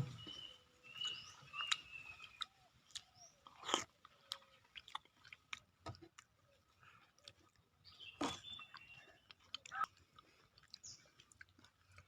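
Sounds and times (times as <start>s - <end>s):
person chewing wetly: 1.0s - 12.0s.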